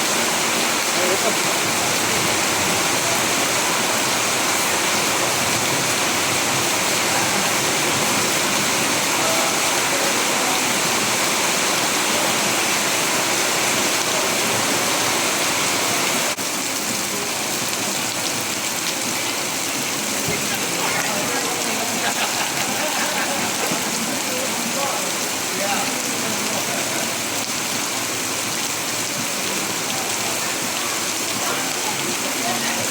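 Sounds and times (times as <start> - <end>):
heavy rain: 0.0 - 32.9.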